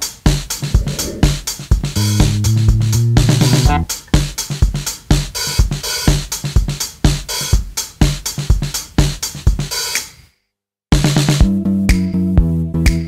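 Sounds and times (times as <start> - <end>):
electronic drum beat music: 0.0 - 10.0, 11.0 - 12.1.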